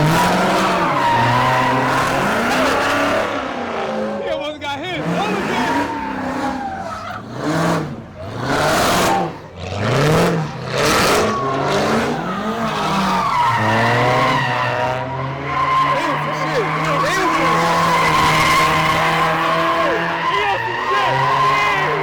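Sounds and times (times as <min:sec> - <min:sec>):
tyres squealing: 0:00.0 - 0:03.4, 0:04.2 - 0:09.6, 0:10.9 - 0:22.0
car engine revving: 0:00.0 - 0:22.0.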